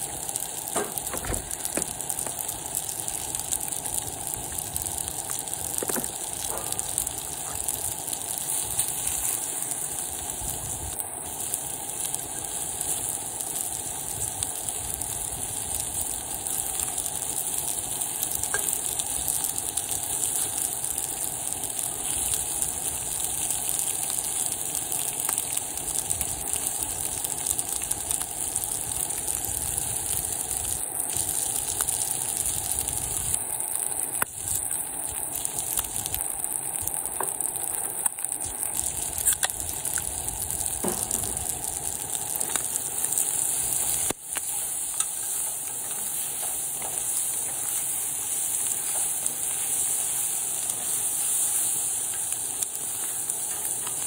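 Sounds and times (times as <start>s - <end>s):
food sizzling in a skillet: 0.0s - 54.0s.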